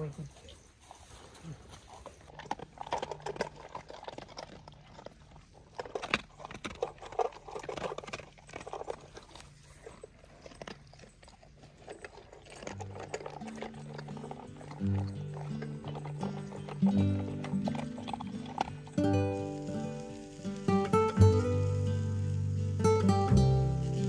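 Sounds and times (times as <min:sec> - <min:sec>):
dogs chewing and crunching food: 0:00.0 - 0:24.0.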